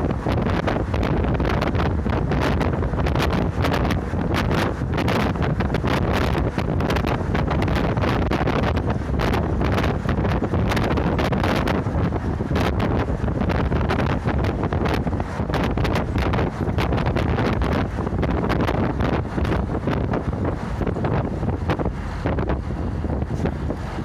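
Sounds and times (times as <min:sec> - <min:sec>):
bus engine and road rumble: 0:00.0 - 0:24.0
wind buffeting microphone: 0:00.0 - 0:24.0.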